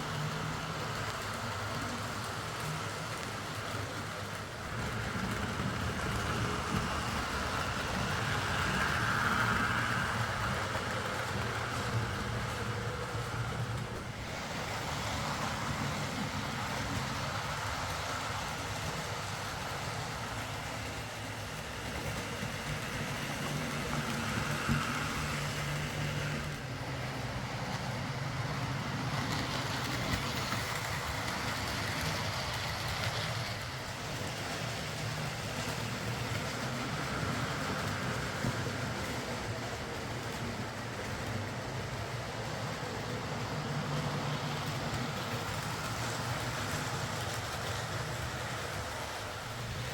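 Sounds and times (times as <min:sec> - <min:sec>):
model train motor hum: 0:00.0 - 0:49.9
wheels rumbling on rails: 0:00.0 - 0:49.9.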